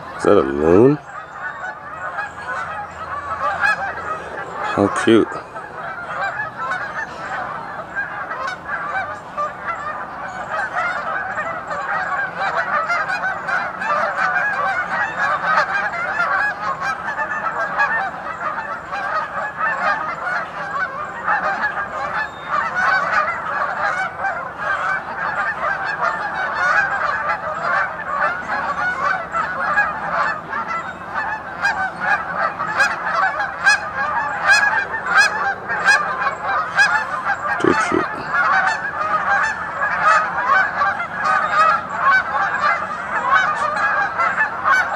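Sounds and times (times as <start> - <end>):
geese honking: 0.0 - 44.9.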